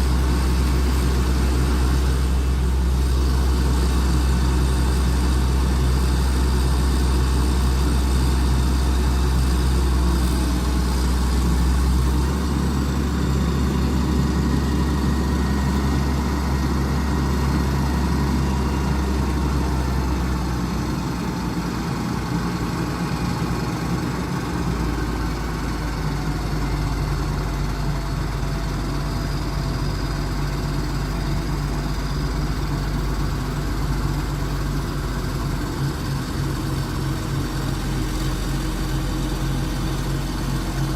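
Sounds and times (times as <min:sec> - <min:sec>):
crane diesel engine running: 0:00.0 - 0:40.9.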